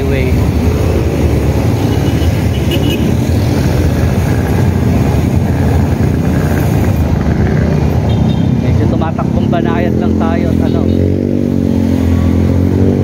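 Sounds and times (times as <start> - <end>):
cars and motorcycles passing: 0.0 - 13.0.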